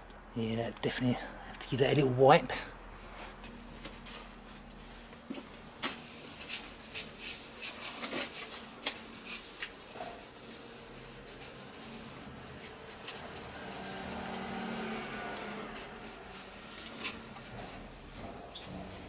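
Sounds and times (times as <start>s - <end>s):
cloth wiping metal: 3.6s - 19.0s.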